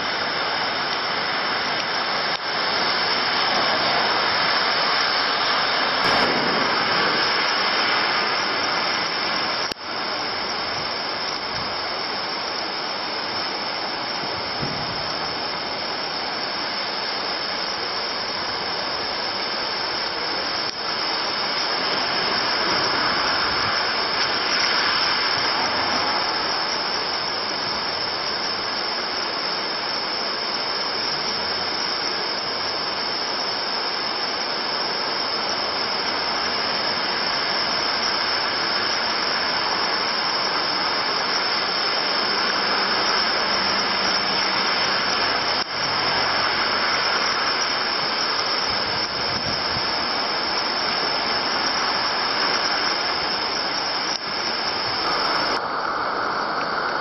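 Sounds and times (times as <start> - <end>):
cars driving on wet road: 0.0 - 32.8, 34.0 - 57.0
rain falling on a street: 0.0 - 57.0.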